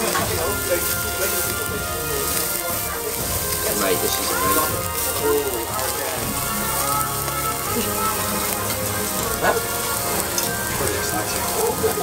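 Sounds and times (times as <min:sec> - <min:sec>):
meat sizzling on a grill plate: 0:00.0 - 0:12.0.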